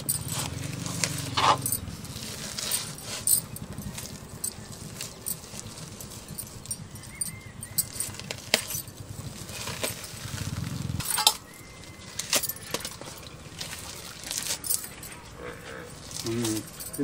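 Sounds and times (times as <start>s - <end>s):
glass bangles clinking: 0.0s - 17.0s.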